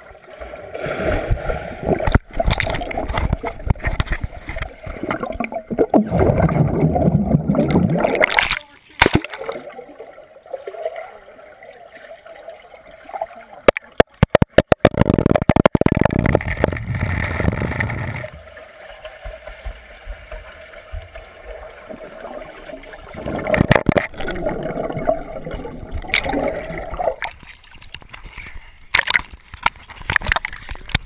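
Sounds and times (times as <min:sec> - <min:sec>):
muffled water gurgling and sloshing: 0:00.0 - 0:31.0
rush of water: 0:00.0 - 0:31.0.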